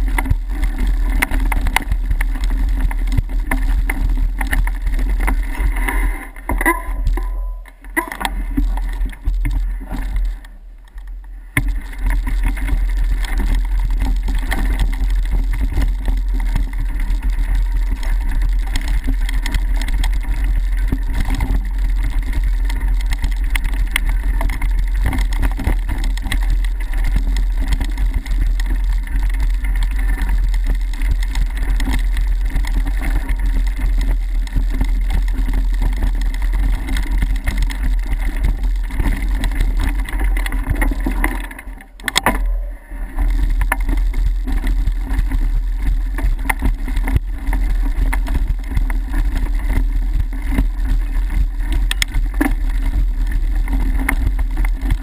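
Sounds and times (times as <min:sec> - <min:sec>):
bike tyres rumbling over gravel: 0:00.0 - 0:55.0.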